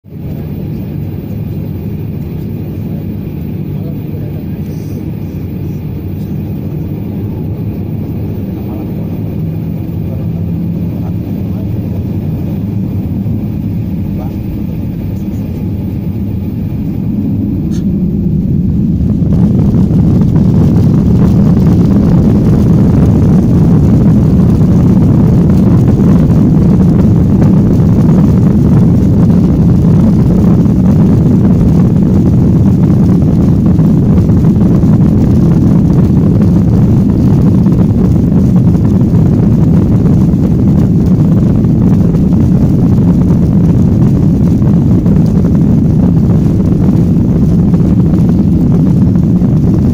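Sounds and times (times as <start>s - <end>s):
jet engines spooling up: 0.2s - 49.9s.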